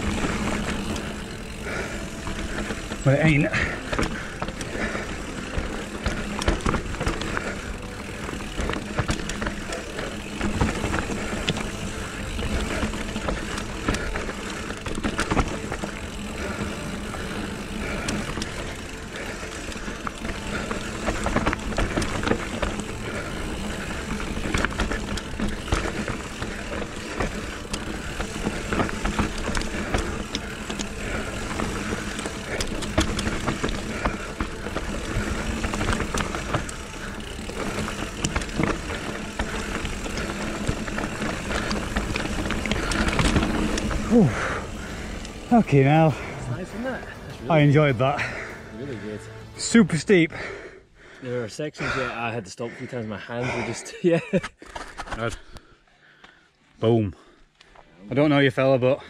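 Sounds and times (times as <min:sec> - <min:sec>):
bike knocking and rattling: 0:00.0 - 0:48.7, 0:53.4 - 0:56.4
tyres on dirt: 0:00.0 - 0:59.0.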